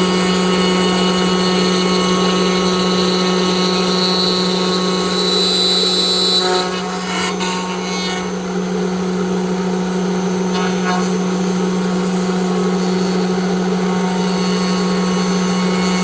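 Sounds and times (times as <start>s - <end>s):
rough wood cutting noises: 0.0s - 16.0s
router spindle humming and whining: 0.0s - 16.0s.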